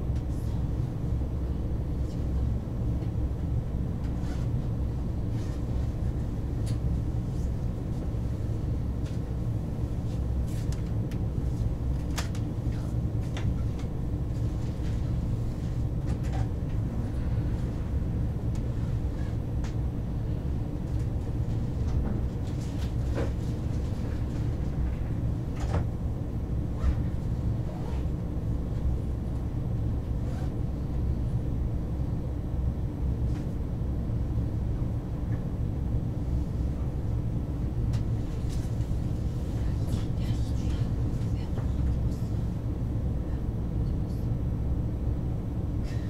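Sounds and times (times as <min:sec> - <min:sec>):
train cabin low rumble: 0:00.0 - 0:46.0.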